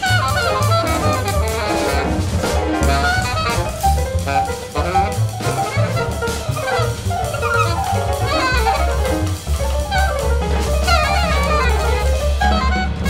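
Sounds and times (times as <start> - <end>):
alto saxophone playing quick lines: 0.0 - 13.0
drums and cymbals: 0.0 - 13.0
walking bass: 0.0 - 13.0.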